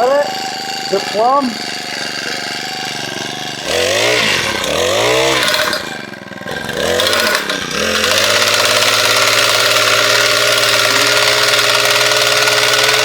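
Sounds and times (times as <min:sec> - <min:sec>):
small petrol engine revving: 0:00.0 - 0:13.0.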